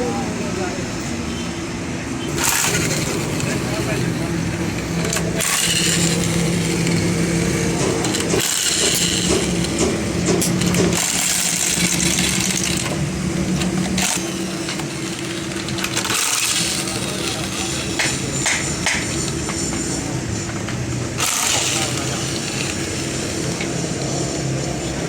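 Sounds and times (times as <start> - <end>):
truck engine hum: 0.0 - 25.0
metallic clinking rattle: 2.3 - 23.8.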